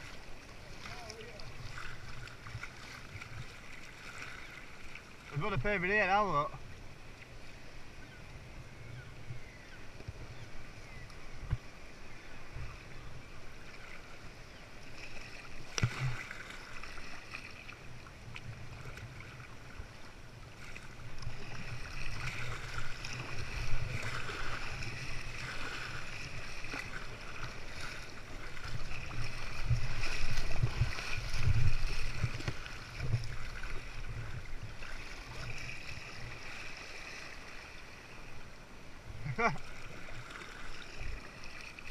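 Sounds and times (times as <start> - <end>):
water splashing around a kayak: 0.0 - 41.9.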